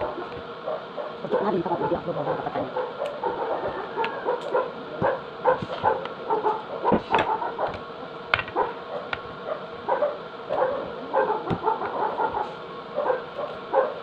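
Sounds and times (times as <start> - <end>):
dog barking: 0.0 - 7.8, 8.5 - 14.0.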